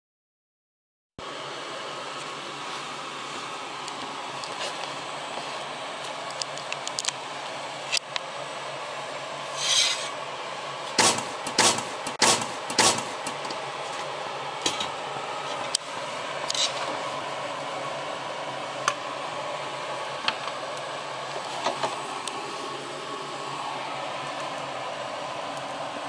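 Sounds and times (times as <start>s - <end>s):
gas stove hiss: 1.2s - 26.0s.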